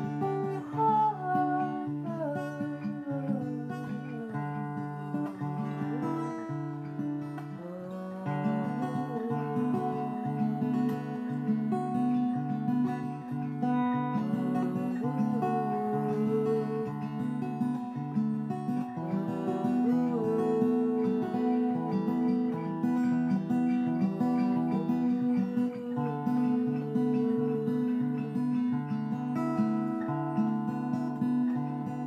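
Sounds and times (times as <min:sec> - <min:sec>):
guitar strummed slowly: 0:00.0 - 0:32.0.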